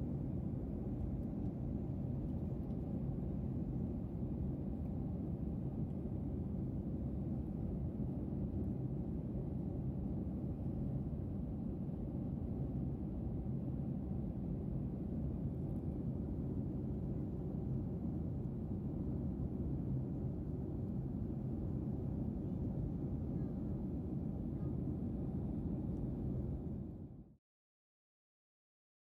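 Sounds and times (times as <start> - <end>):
faint hum: 0.0 - 27.4.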